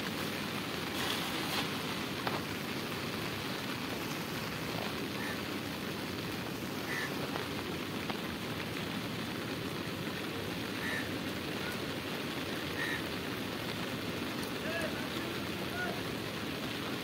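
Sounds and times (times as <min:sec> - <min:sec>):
rain falling on water: 0:00.0 - 0:17.0.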